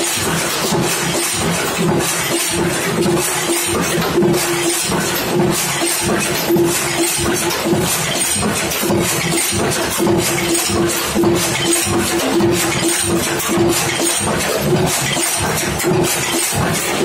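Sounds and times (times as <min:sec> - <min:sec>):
machine hum: 0:00.0 - 0:17.0
machine rhythmic metallic clatter: 0:00.0 - 0:17.0.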